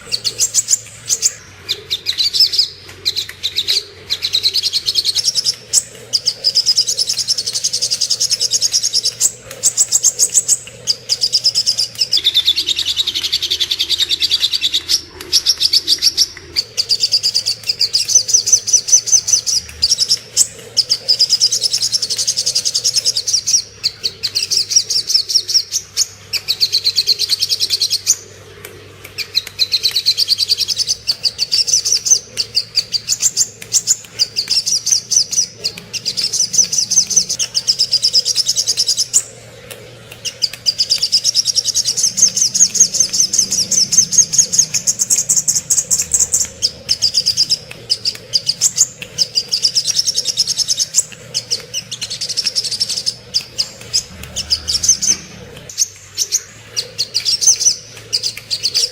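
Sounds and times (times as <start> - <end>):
bird chattering trills: 0.0 - 58.9.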